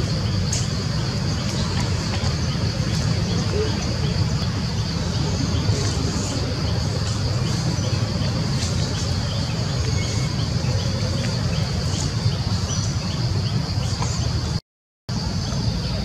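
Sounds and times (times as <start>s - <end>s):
bird chirps: 0.0s - 14.6s.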